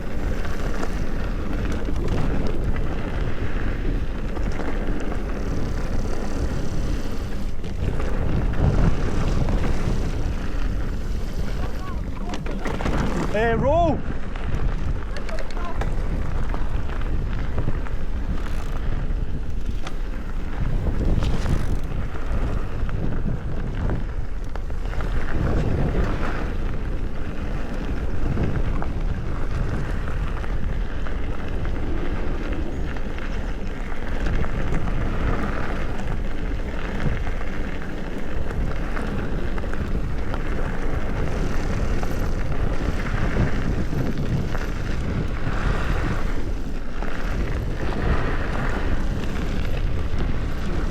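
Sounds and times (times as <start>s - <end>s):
bicycle rattle and tyre noise: 0.0s - 50.9s
wind buffeting microphone: 0.0s - 50.9s.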